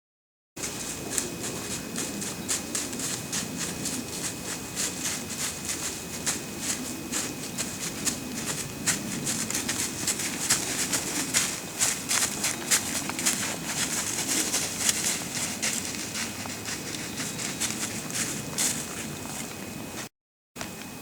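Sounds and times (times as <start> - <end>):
hooves crunching through dry leaves: 0.6 - 20.1.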